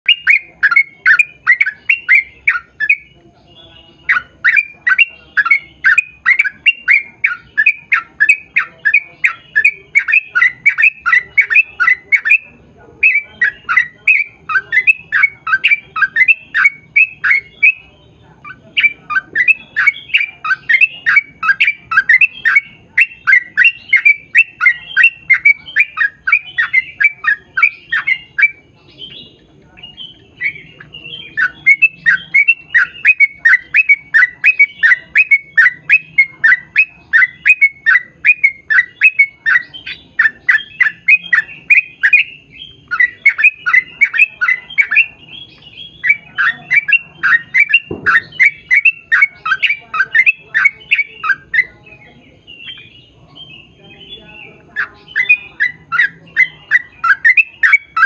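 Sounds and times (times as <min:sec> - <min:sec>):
bird chattering call: 0:00.0 - 0:58.0.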